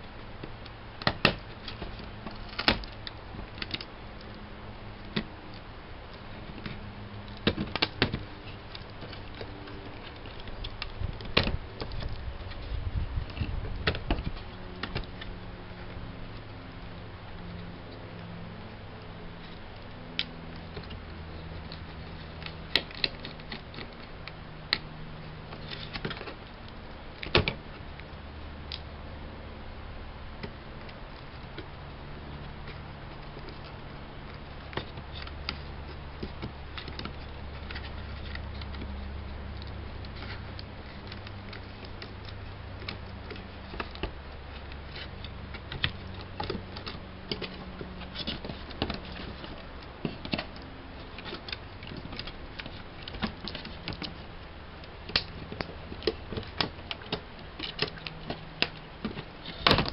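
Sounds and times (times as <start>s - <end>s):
low steady hum: 0.0s - 59.9s
light clicks of laptop parts: 0.4s - 4.4s, 5.0s - 28.9s, 30.4s - 59.9s.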